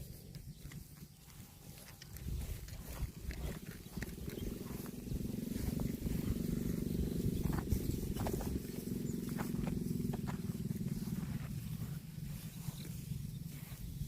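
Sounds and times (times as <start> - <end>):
cattle low rumbling: 0.0 - 14.0.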